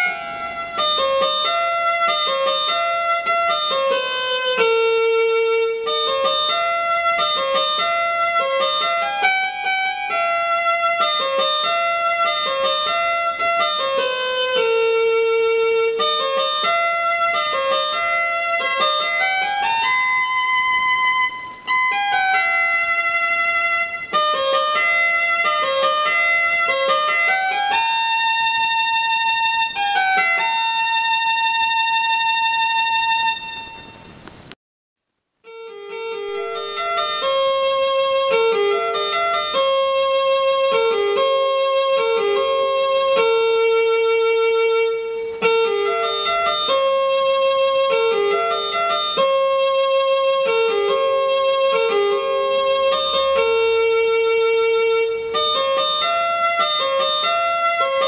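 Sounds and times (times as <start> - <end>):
instrumental background music: 0.0 - 34.4, 35.4 - 58.0.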